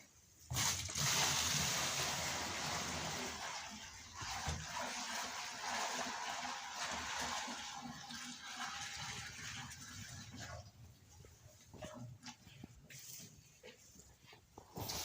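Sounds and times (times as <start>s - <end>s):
water running: 0.5s - 13.1s.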